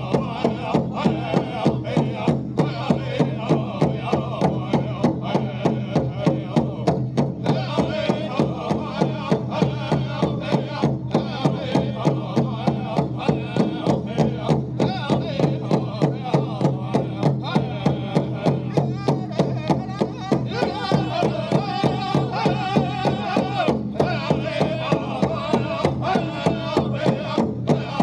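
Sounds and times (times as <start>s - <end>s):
big drum beating: 0.0s - 28.0s
chorus of singers: 0.0s - 28.0s.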